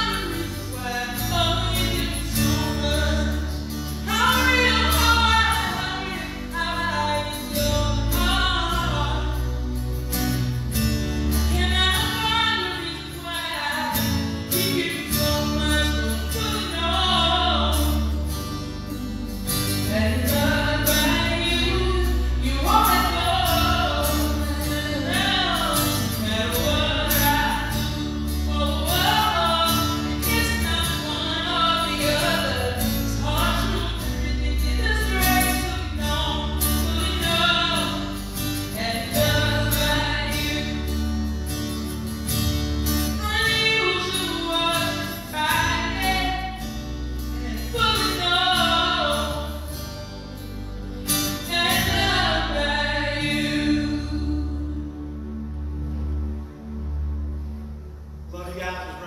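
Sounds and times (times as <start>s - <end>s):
women singing: 0.0s - 9.6s, 11.5s - 19.0s, 19.7s - 41.0s, 43.1s - 50.2s, 51.3s - 55.1s
acoustic guitar: 0.0s - 59.0s
keyboard: 0.0s - 59.0s.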